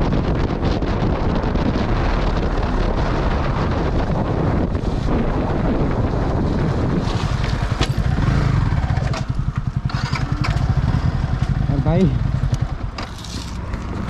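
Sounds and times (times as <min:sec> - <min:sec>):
motorcycle engine at low revs: 0:00.0 - 0:14.0
wind rushing over microphone: 0:00.0 - 0:14.0.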